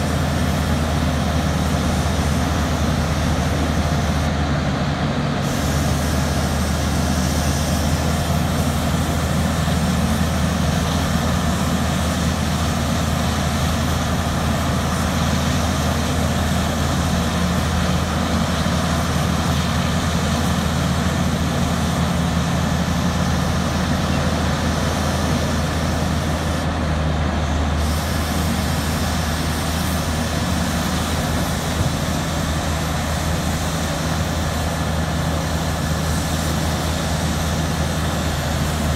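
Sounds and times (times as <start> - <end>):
diesel engines droning: 0.0 - 38.9.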